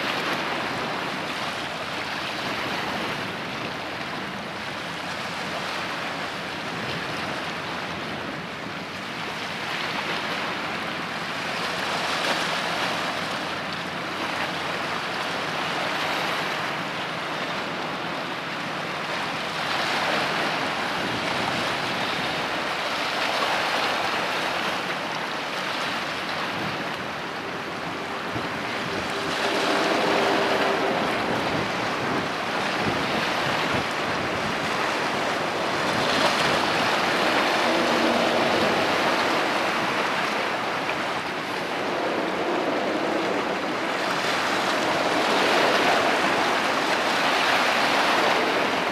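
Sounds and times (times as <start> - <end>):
sea waves washing: 0.0 - 48.9
wind noise on microphone: 0.0 - 48.9.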